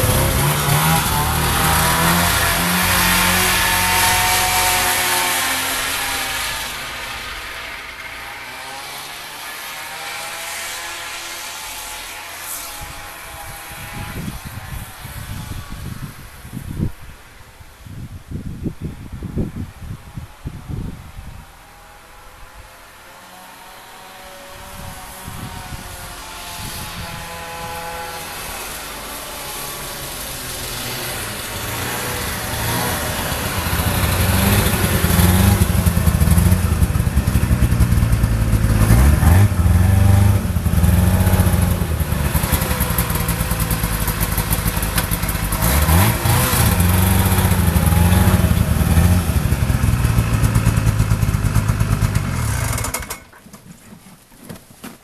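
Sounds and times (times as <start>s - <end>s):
snowmobile engine driving past: 0.0s - 16.2s, 21.4s - 53.2s.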